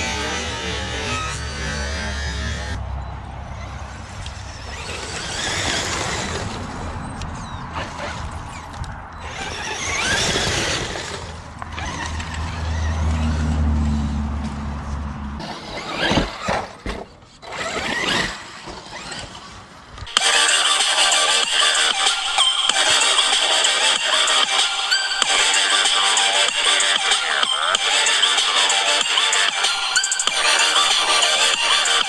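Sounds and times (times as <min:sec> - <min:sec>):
toy truck motor and tyres: 0:00.0 - 0:32.0.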